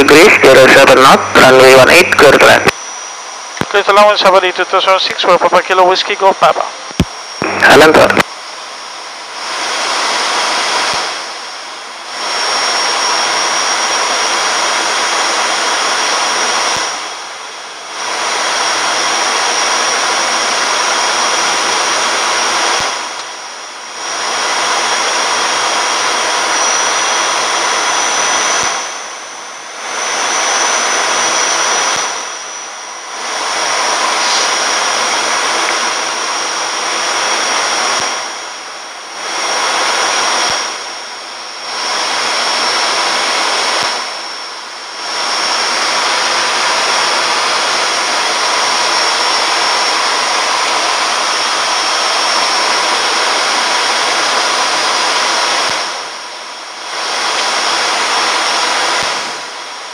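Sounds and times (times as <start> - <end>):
airflow and engine noise in cockpit: 0.0 - 59.9
thin high whine: 0.0 - 59.9.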